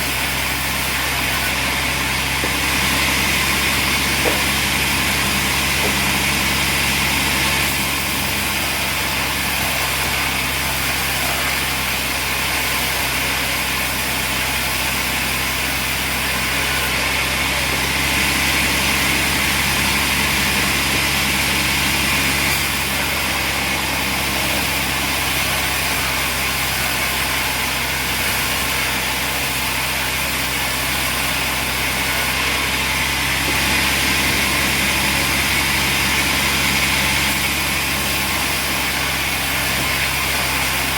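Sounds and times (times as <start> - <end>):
sawmill machinery hum and hiss: 0.0 - 40.9.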